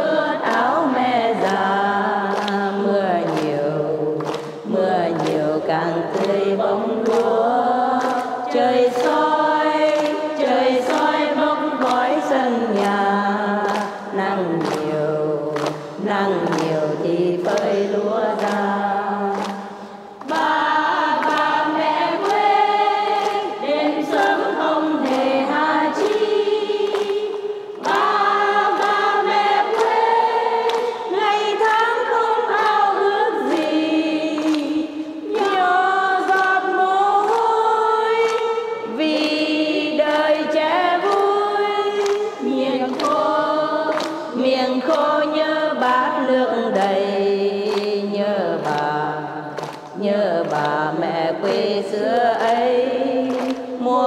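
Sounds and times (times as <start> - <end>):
group of voices singing: 0.0 - 54.0.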